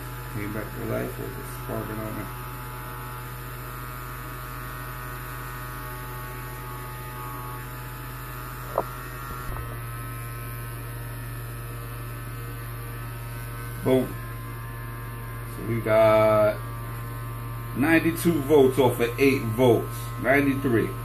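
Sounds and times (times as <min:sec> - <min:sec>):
buzzing electrical hum: 0:00.0 - 0:21.0.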